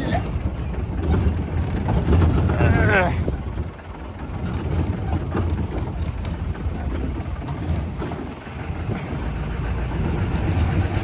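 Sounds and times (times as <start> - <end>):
engine and road rumble: 0.0 - 11.0
knocks and rattles: 0.0 - 11.0.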